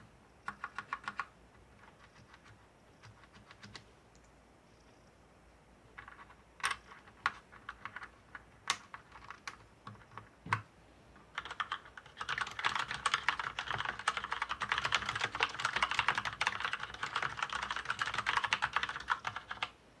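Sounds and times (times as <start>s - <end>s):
mechanical keyboard typing: 0.4s - 3.8s, 6.0s - 10.6s, 11.3s - 19.7s.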